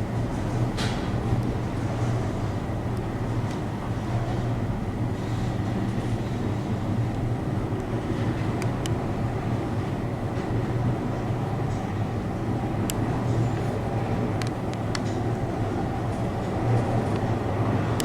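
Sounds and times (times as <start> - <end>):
lift hum and rumble: 0.0 - 18.0.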